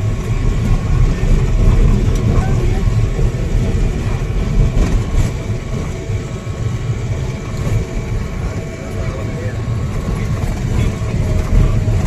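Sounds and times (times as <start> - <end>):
vehicle running low rumble: 0.0 - 12.0.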